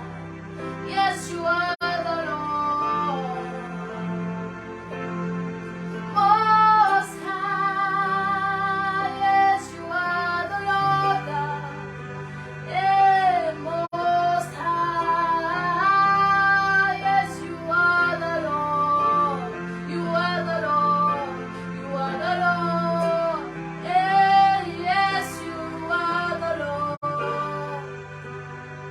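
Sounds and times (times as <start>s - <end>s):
woman singing wordless melody: 0.0s - 4.3s, 5.9s - 12.0s, 12.6s - 28.0s
sustained accompaniment chords: 0.0s - 28.9s.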